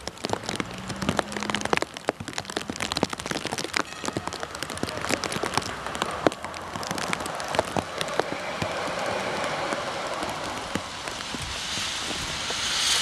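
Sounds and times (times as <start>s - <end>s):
raindrops ticking on hard surface: 0.0s - 12.9s
steady rain hiss: 0.0s - 13.0s.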